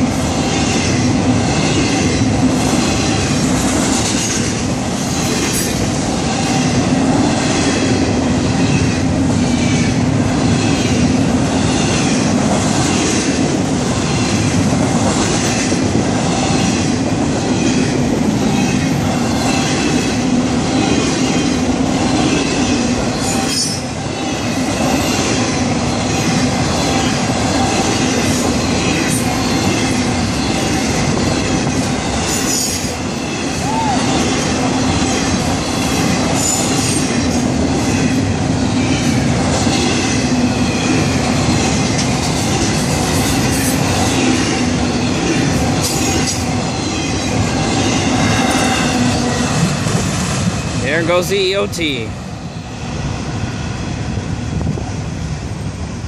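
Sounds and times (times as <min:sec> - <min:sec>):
train wheels clacking: 0:00.0 - 0:51.3
freight train rumbling past: 0:00.0 - 0:56.0.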